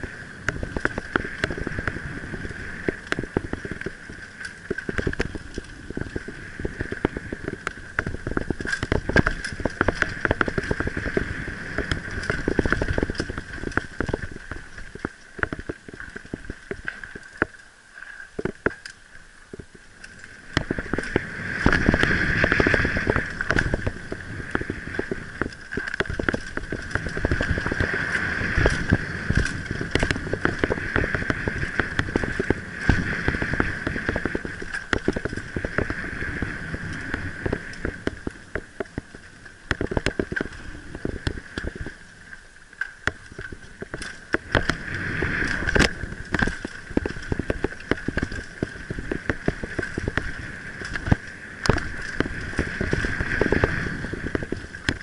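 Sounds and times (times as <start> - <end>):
wind rushing over microphone: 0.0 - 16.9, 20.4 - 42.3, 43.0 - 55.0
bike knocking and rattling: 0.0 - 17.6, 18.3 - 42.0, 42.7 - 55.0.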